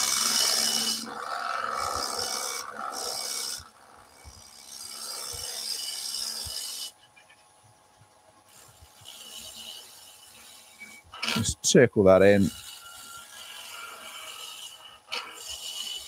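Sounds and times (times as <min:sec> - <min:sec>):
lathe gouge scraping wood: 0:00.0 - 0:06.9, 0:08.5 - 0:11.5, 0:12.2 - 0:16.0.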